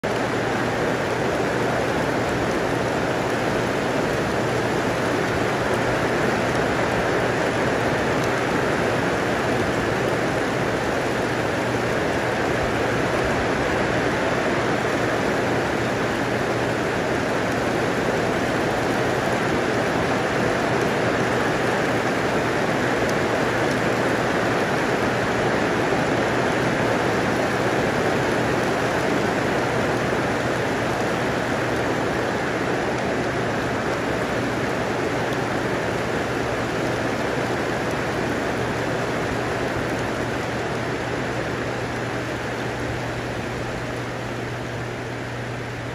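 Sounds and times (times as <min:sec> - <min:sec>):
heavy rain on plants and ground: 0:00.0 - 0:45.9.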